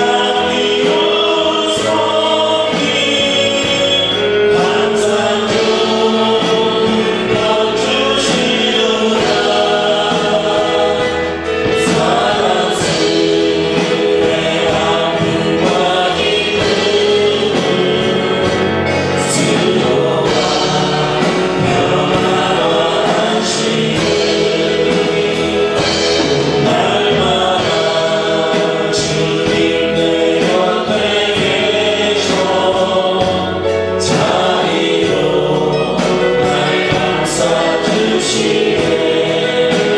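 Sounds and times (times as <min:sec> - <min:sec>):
group singing worship song: 0:00.0 - 0:39.9
instrumental accompaniment with beat: 0:00.0 - 0:39.9.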